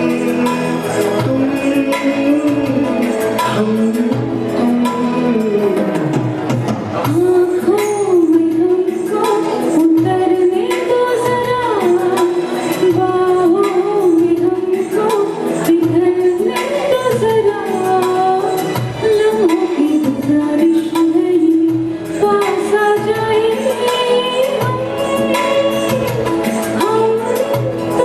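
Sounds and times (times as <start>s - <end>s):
percussion: 0.0s - 28.0s
person singing over backing track: 0.0s - 28.0s.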